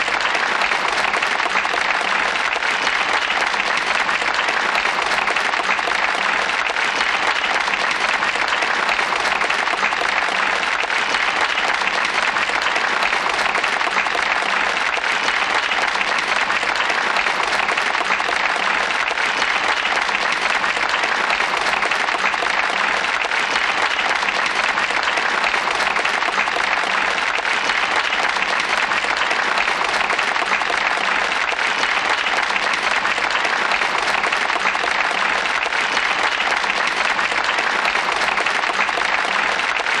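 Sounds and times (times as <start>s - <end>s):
crowd applause: 0.0s - 40.0s.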